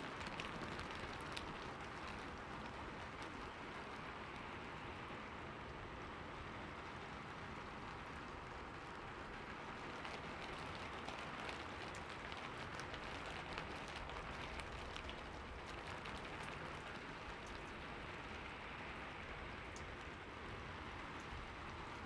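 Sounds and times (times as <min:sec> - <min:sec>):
raindrops ticking on a surface: 0:00.0 - 0:22.0
steady rainfall: 0:00.0 - 0:22.0.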